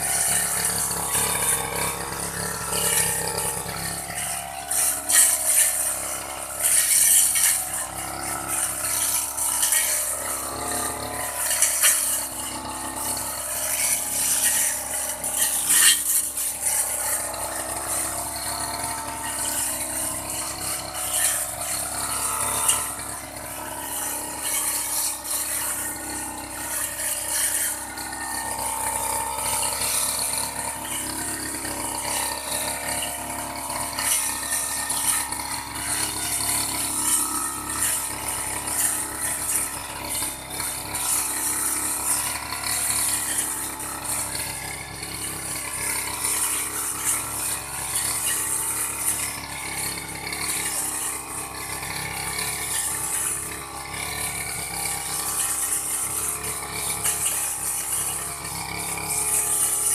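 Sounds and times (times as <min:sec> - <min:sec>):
brush cutter cutting grass: 0:00.0 - 0:59.9.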